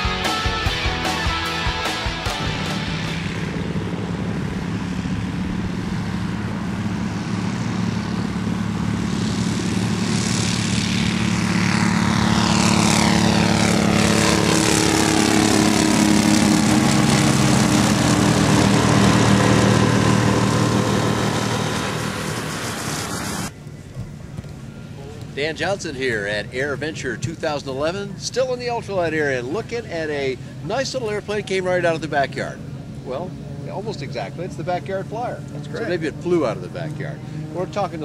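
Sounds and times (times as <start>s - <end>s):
aircraft engine and propeller: 0.0s - 38.0s.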